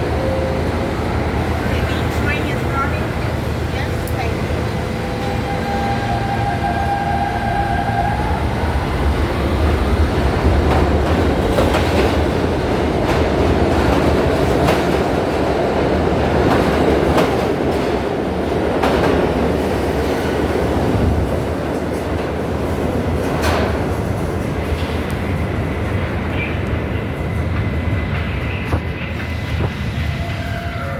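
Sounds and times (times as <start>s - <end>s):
subway train rumbling: 0.0s - 30.9s.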